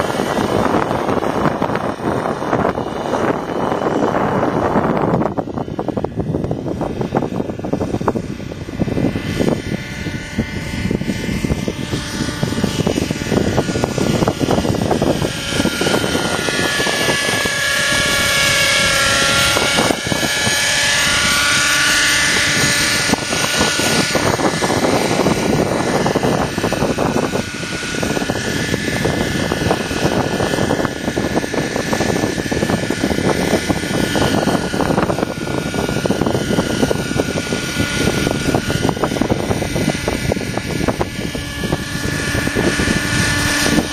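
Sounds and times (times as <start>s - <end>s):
gusty wind on microphone: 0.0s - 43.9s
rc helicopter engine and rotors whining: 0.0s - 43.9s.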